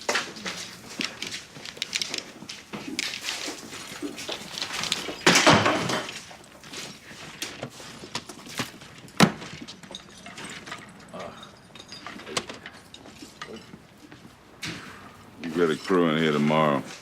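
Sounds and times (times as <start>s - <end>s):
scattered knocks and clatters: 0.0s - 15.1s.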